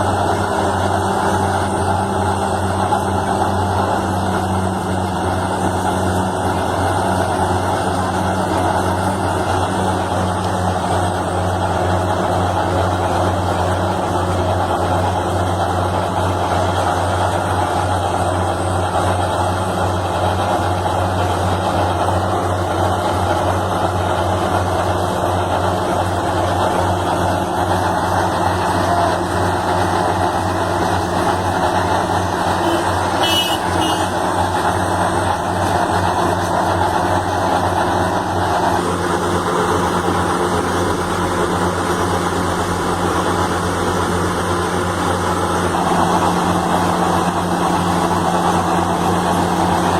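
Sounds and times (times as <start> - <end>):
diesel machinery engine drone: 0.0 - 49.9.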